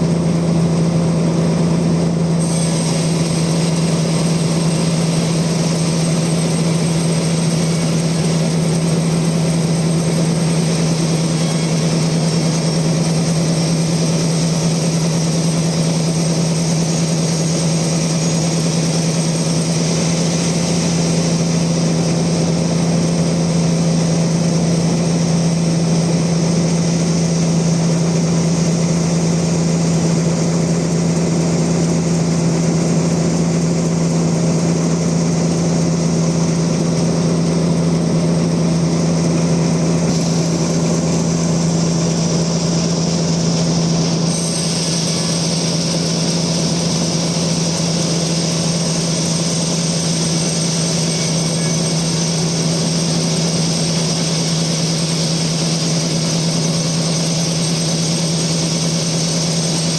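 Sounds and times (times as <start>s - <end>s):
bandsaw mill motor hum: 0.0s - 59.9s.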